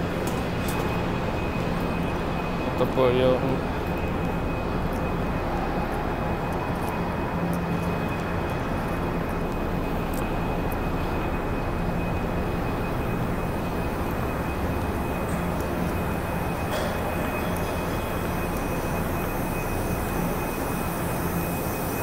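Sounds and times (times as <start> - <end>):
factory machinery hum: 0.0 - 22.0
faint high whine: 0.0 - 22.0.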